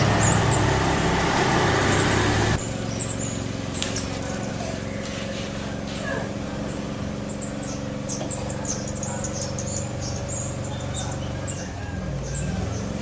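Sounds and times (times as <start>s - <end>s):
songbirds chirping: 0.0s - 13.0s
steady low hum: 0.0s - 13.0s.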